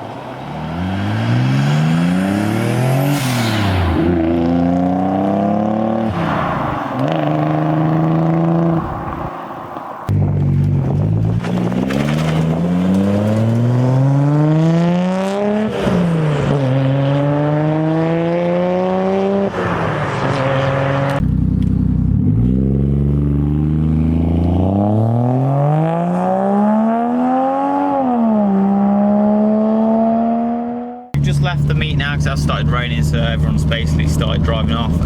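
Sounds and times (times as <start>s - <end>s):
car engines accelerating hard: 0.0s - 35.0s.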